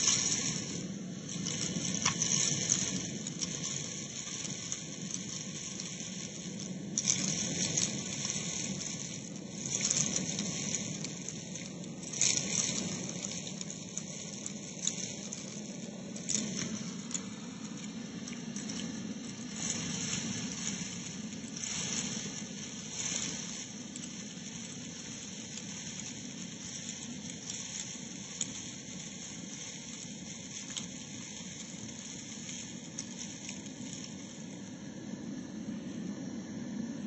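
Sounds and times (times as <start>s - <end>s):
grains rattling in hose: 0.0s - 37.0s
vacuum suction drone: 0.0s - 37.0s.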